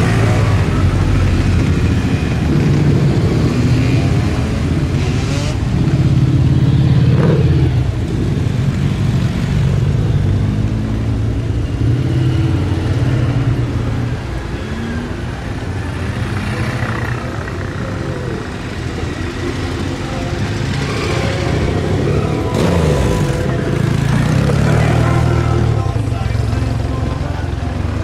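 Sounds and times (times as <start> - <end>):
motorcycles riding past: 0.0 - 28.0.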